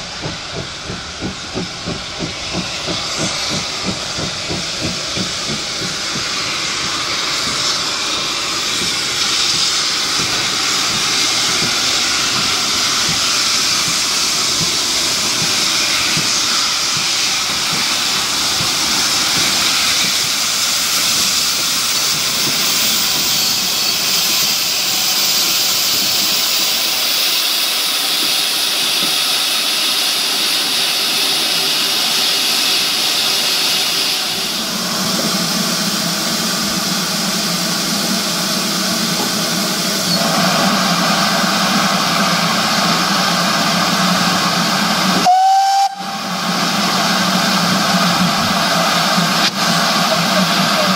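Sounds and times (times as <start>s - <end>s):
steam locomotive hissing: 0.0s - 50.9s.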